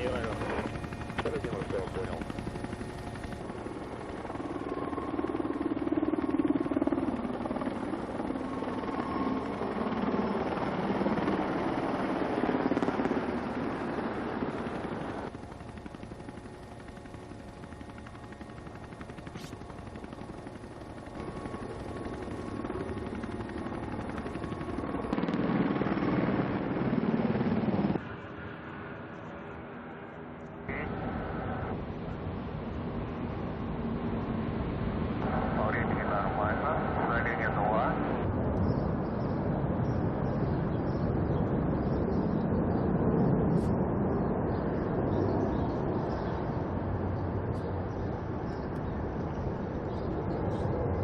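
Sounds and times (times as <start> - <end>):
helicopter rotors chopping: 0.0 - 51.0
military aircraft flying over: 0.0 - 51.0.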